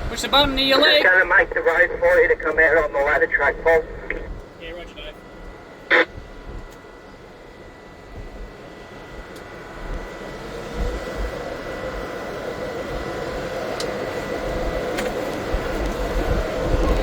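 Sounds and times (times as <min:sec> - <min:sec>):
wind rumbling on microphone: 0:00.0 - 0:04.7, 0:05.9 - 0:06.7, 0:08.0 - 0:17.0
diesel locomotive engine: 0:00.0 - 0:17.0.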